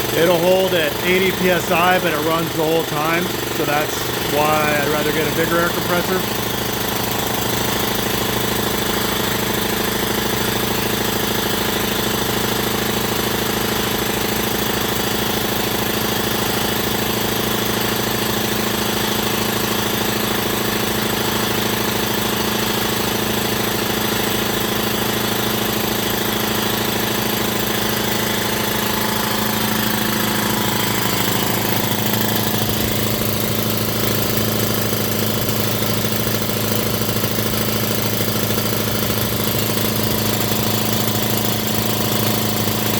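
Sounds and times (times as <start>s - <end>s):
air compressor running: 0.0s - 42.9s.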